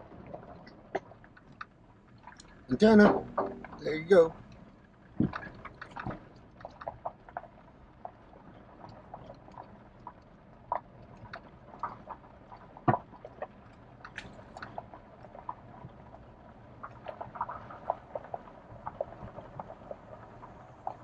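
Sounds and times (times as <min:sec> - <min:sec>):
truck rattling on rough trail: 0:00.0 - 0:21.0.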